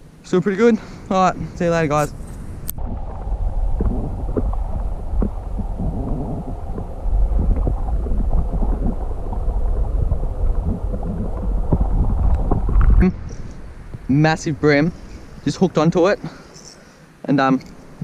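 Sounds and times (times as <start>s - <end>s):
wind buffeting microphone: 1.2s - 16.2s.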